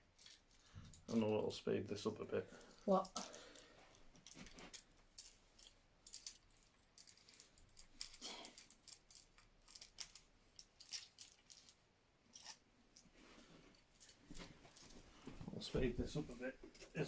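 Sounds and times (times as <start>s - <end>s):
handcuffs clinking and rattling: 0.0s - 1.5s, 2.5s - 13.1s, 13.7s - 15.0s, 16.2s - 17.0s.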